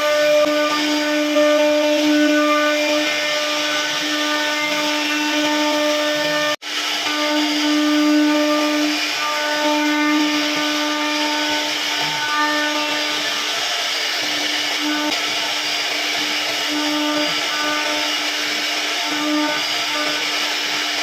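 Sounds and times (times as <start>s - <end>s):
bit cutting wood hiss: 0.0s - 21.0s
router spindle whine: 0.0s - 21.0s.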